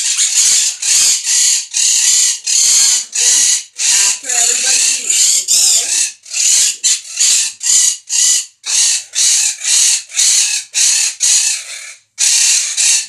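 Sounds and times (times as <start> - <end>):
parrot screeching: 0.0 - 13.0.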